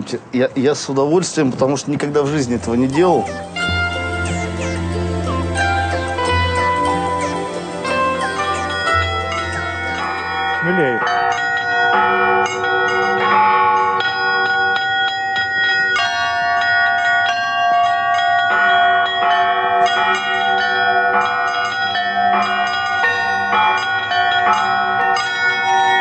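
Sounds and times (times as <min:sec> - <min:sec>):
church bells jangling: 0:01.7 - 0:26.0.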